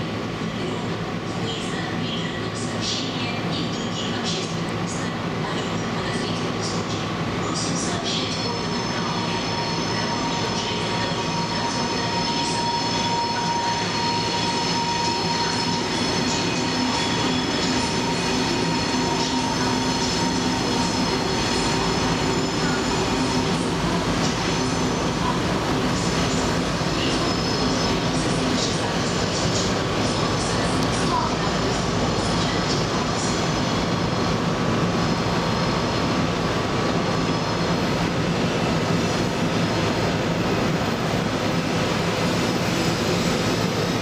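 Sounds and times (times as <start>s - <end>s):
diesel locomotive engine under load: 3.6s - 44.0s.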